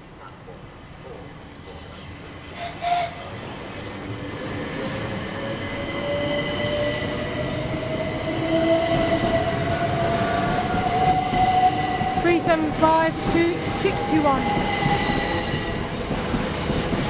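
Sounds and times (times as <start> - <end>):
rumble of train wheels: 0.0 - 17.0.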